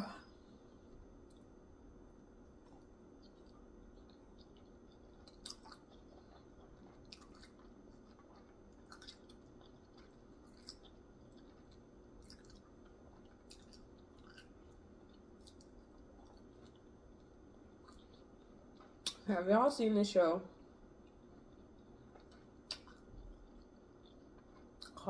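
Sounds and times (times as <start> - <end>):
person chewing: 2.5 - 19.2, 20.6 - 25.0.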